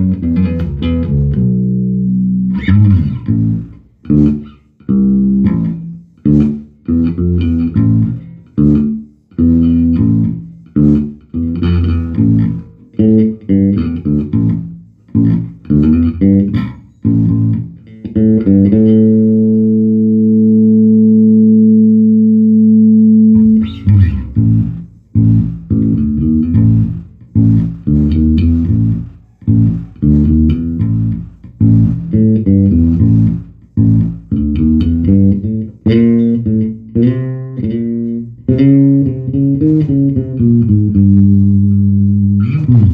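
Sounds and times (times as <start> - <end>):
electric bass guitar playing: 0.0 - 42.9.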